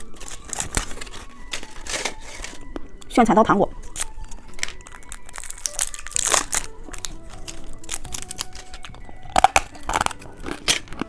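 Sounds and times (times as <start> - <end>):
plastic packaging crinkling: 0.0 - 3.1, 3.8 - 11.0.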